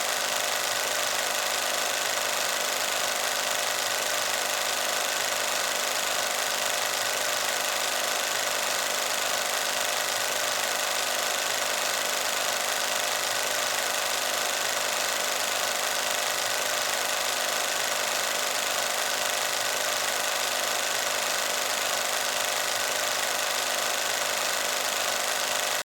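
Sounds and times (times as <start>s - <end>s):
film projector clattering: 0.0s - 25.9s.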